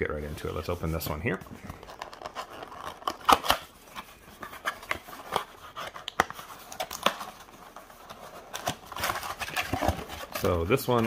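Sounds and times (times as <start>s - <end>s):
cardboard clicks and scrapes: 1.6s - 10.5s.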